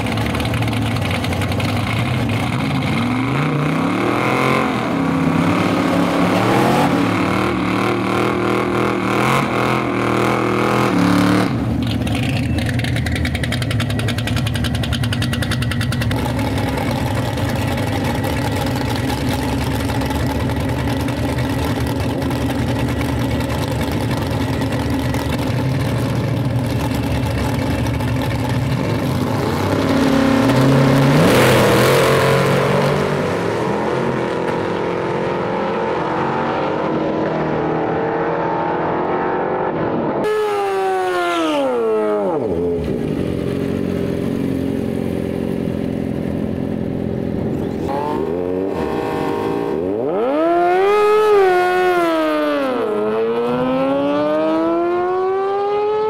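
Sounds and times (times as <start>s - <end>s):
drag truck engine revving: 0.0s - 56.0s
motorcycle engine revving: 0.0s - 56.0s.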